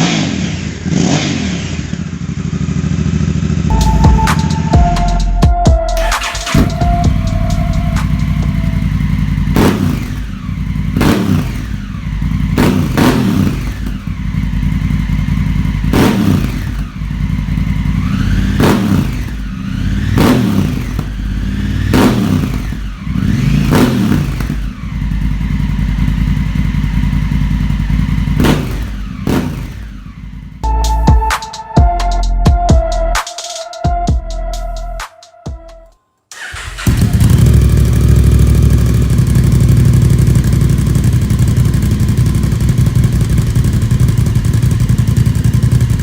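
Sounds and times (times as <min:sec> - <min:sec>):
motorcycle engine revving: 0:00.0 - 0:04.8, 0:06.0 - 0:31.6, 0:36.4 - 0:46.0.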